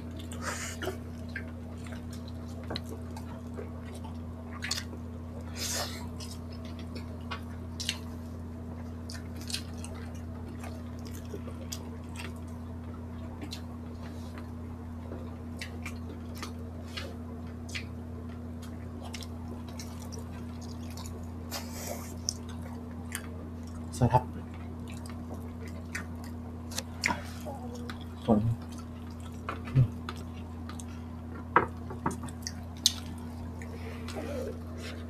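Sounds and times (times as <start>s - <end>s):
people chewing with wet smacks: 0.0s - 35.0s
steady low hum: 0.0s - 35.0s.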